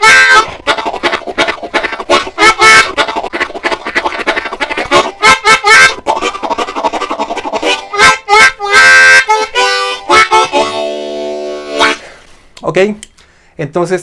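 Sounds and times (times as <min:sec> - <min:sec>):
harmonica imitating a train: 0:00.0 - 0:12.3.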